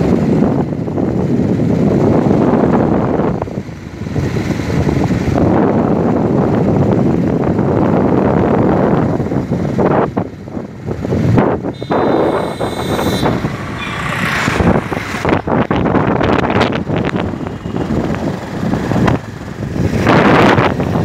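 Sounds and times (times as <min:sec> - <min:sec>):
road and engine noise: 0:00.0 - 0:21.0
wind rushing over microphone: 0:00.0 - 0:21.0.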